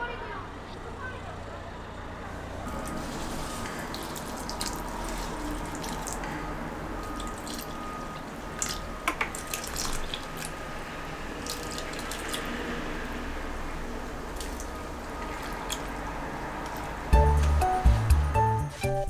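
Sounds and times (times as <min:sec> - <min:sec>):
water running and dripping: 0:02.4 - 0:18.3.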